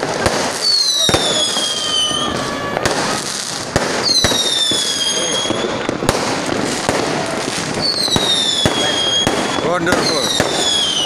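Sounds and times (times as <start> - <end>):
firework bangs: 0.0 - 11.0
whistling firework: 0.0 - 11.0.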